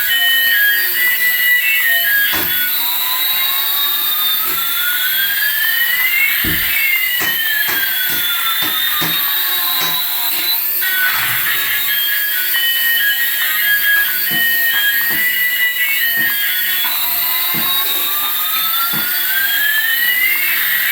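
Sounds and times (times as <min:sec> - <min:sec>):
electronic whining tones: 0:00.0 - 0:20.9.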